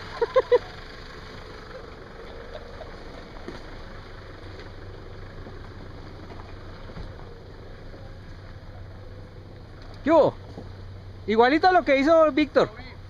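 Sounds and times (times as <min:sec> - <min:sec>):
vehicle engine humming low: 0:00.0 - 0:13.0.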